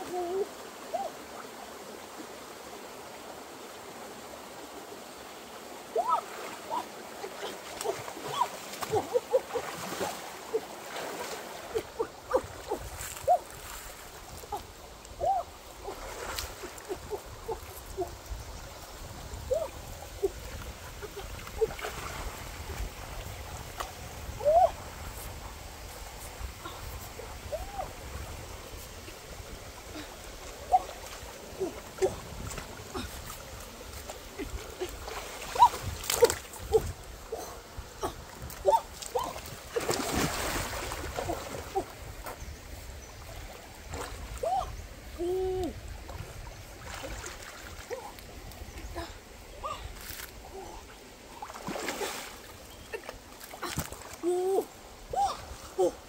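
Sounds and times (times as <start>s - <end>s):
water sloshing and splashing: 5.9s - 45.2s, 45.9s - 56.0s.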